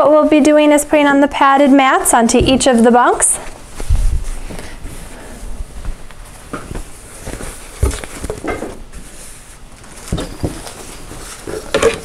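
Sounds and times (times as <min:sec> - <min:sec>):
fabric rustling: 0:01.4 - 0:11.8.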